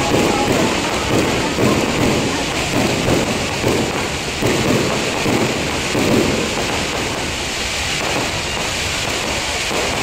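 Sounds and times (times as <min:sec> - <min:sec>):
fireworks booming: 0:00.0 - 0:10.0
fireworks crackling: 0:00.0 - 0:10.0.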